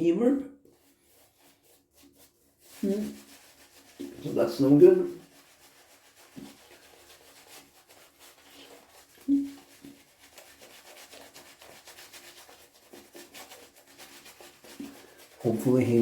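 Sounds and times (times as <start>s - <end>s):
shaving brush scrubbing lather: 0.0s - 16.0s.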